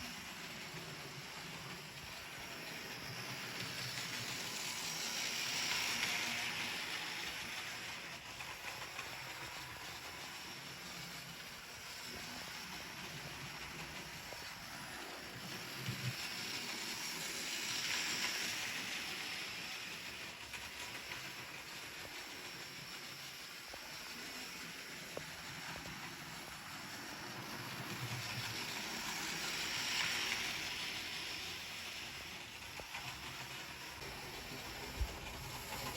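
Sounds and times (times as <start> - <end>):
model train running on track: 0.0 - 35.9.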